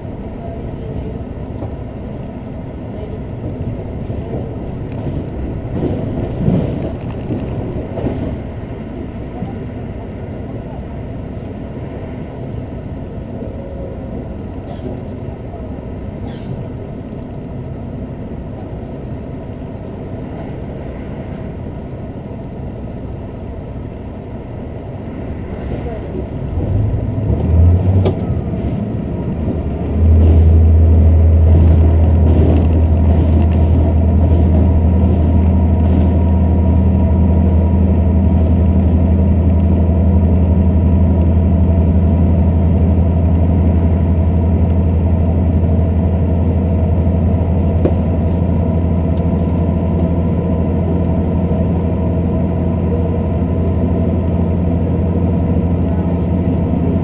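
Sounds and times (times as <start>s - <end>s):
diesel train engine droning: 0.0s - 57.0s
wheels rumbling on rails: 0.0s - 57.0s.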